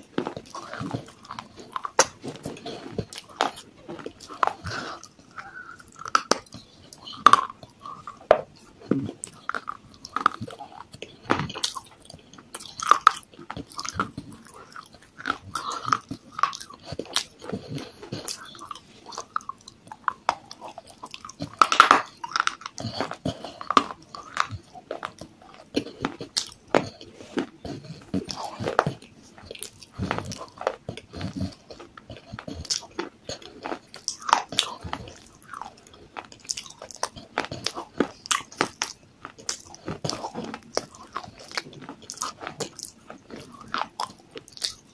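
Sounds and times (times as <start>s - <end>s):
wet chewing: 0.0s - 44.9s.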